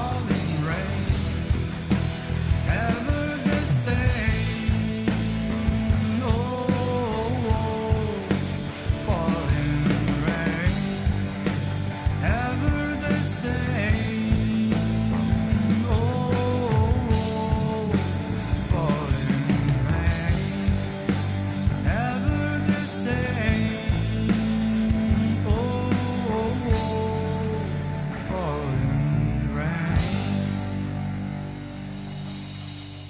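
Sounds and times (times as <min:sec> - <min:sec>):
drum kit steady beat: 0:00.0 - 0:29.0, 0:29.8 - 0:33.0
rock band playing: 0:00.0 - 0:33.0
sliding lead melody: 0:00.0 - 0:33.0.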